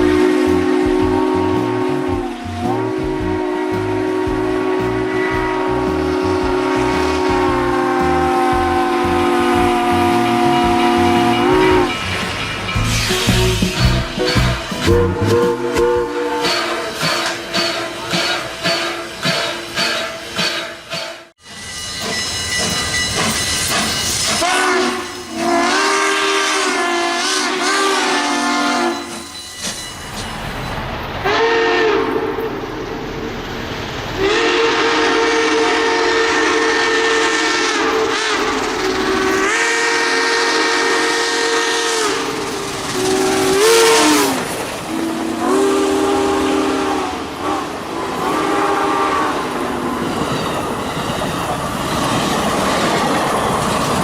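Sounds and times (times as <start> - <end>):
steam hissing: 0.0 - 26.5, 32.2 - 54.0
steam locomotive whistle blasts: 0.0 - 30.3, 31.2 - 32.9, 34.2 - 50.4.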